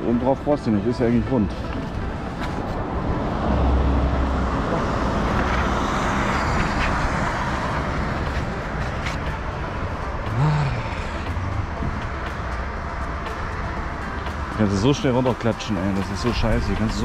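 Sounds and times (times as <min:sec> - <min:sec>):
road traffic rush: 0:00.0 - 0:17.0.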